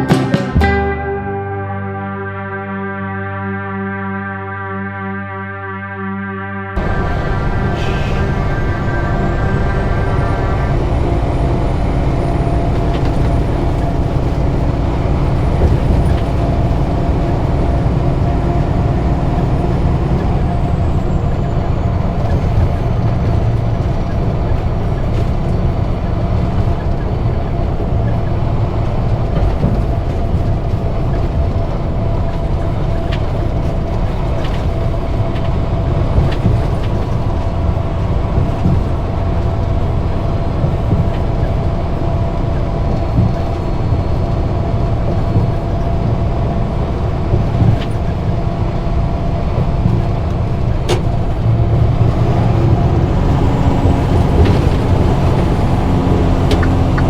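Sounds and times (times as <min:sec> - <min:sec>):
truck diesel engine drone: 0:00.0 - 0:57.0
constant whine: 0:06.7 - 0:57.0
road noise: 0:06.8 - 0:57.0.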